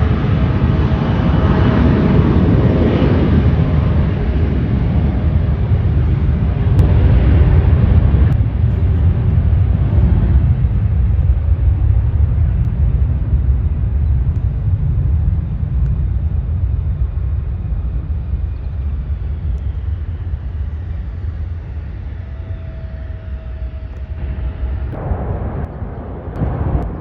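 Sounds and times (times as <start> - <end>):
faint high engine whine: 0.0 - 27.0
jet engines rumbling: 0.0 - 27.0.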